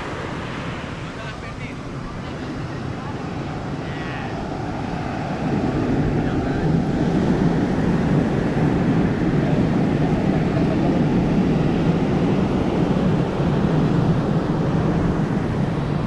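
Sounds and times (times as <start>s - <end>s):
steady low rushing noise: 0.0s - 16.0s.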